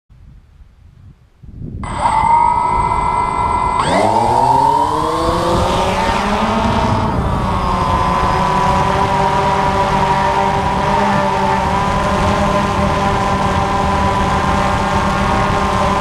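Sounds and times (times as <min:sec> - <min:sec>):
drone propellers whining: 0:01.8 - 0:16.0.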